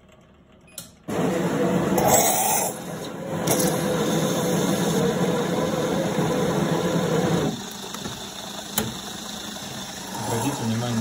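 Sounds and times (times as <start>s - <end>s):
coffee machine mechanical hum: 0.0s - 11.0s
steam hissing: 1.1s - 11.0s.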